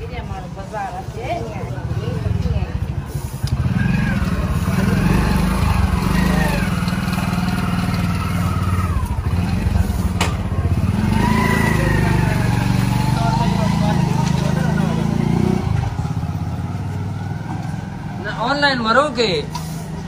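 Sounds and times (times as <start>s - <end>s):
small motorcycle engine running: 2.0s - 18.6s.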